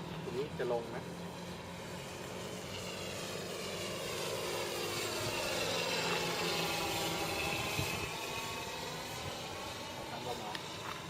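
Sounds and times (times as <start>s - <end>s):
model plane engine and propeller: 0.0s - 11.0s.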